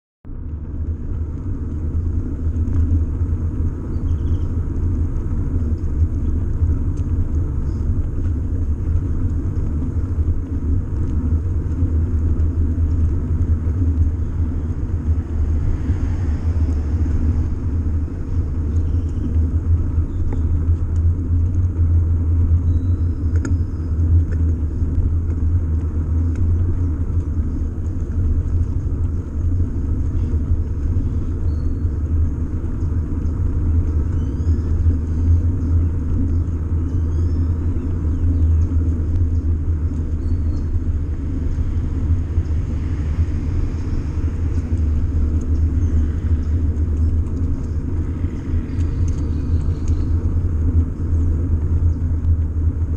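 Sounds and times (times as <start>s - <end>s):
bicycle rolling over brick paving: 0.7s - 52.9s.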